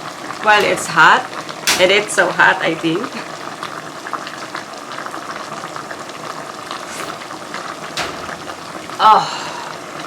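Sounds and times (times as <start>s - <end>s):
pot bubbling and crackling: 0.0s - 10.0s.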